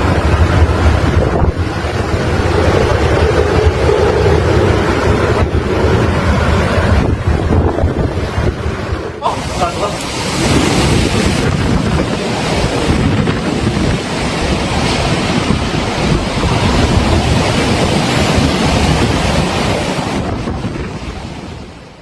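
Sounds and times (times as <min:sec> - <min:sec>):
surf crashing: 0:00.0 - 0:22.0
wind buffeting microphone: 0:00.0 - 0:22.0.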